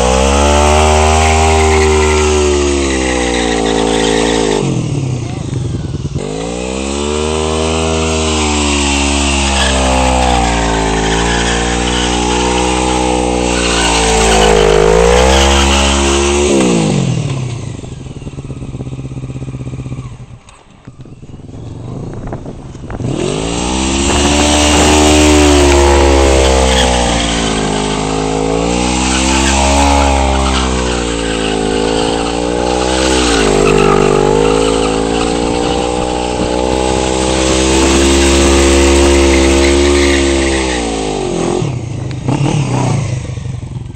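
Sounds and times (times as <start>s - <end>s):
motorcycle engine revving high: 0.0s - 43.9s.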